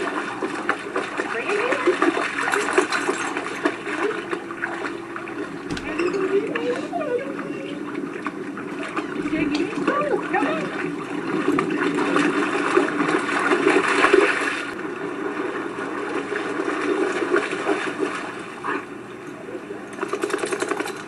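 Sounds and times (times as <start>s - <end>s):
water splashing and churning: 0.0s - 19.0s.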